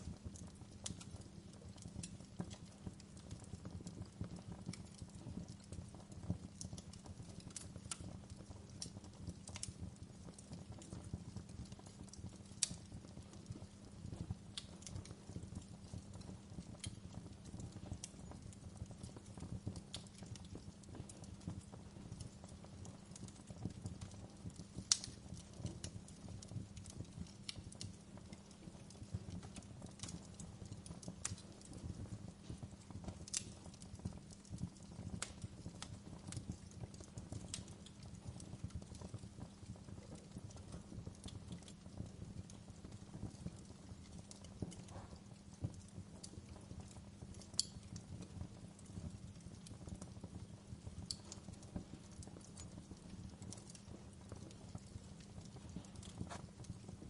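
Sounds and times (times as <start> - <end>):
fire crackling and popping: 0.0 - 57.0
fire low rumble: 0.0 - 57.0.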